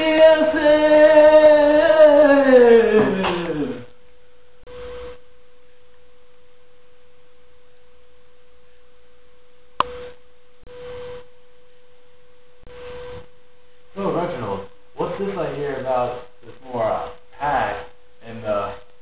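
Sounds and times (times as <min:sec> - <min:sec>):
steady pure tone: 0:00.0 - 0:19.0.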